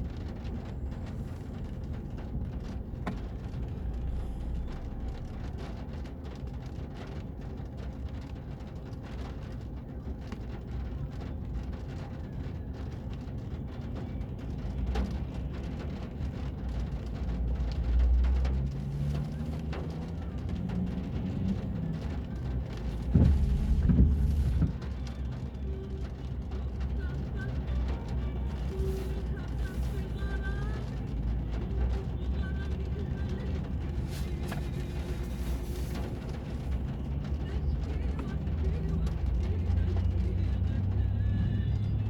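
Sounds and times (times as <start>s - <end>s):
low rain rumble: 0.0s - 42.0s
rain drops clicking: 0.0s - 42.0s.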